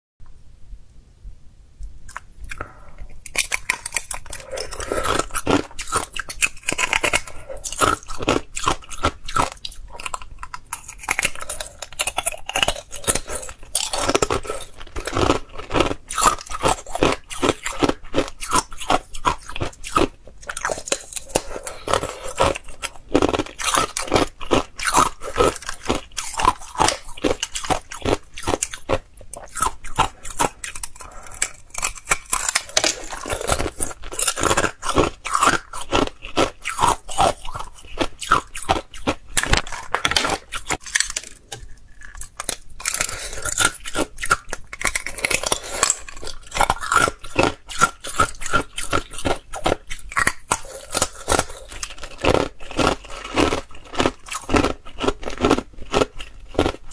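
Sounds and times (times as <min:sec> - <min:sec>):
ice cubes crunching: 0:02.1 - 0:56.9.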